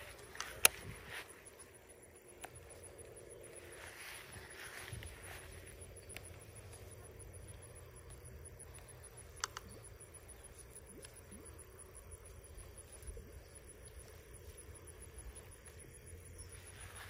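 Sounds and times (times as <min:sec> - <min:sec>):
faint high insect chirp: 0:00.0 - 0:17.0
faint ticks: 0:00.0 - 0:17.0.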